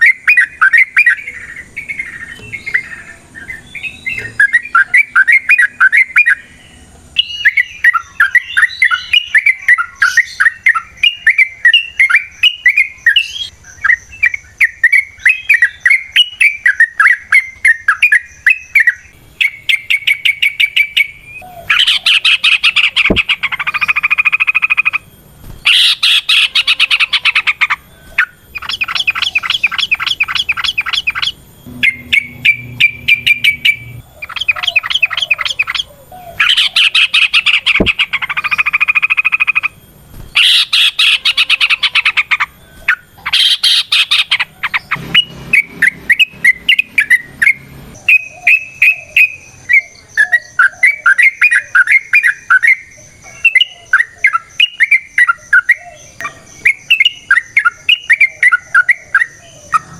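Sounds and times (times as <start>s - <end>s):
bulbul singing: 0.0s - 59.9s.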